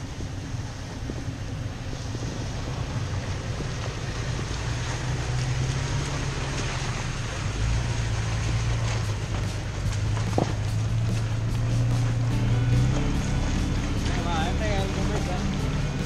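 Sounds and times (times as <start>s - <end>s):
low engine drone: 0.0s - 16.0s
wind and road noise: 0.0s - 16.0s.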